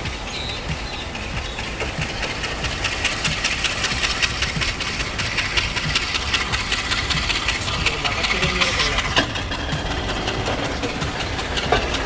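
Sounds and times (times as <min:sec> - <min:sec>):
diesel locomotive engine running: 0:00.0 - 0:12.0
rapid clatter: 0:00.0 - 0:12.0.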